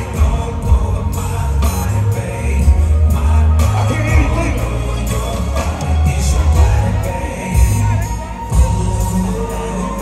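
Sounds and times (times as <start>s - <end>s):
live concert music with heavy bass: 0.0s - 10.0s.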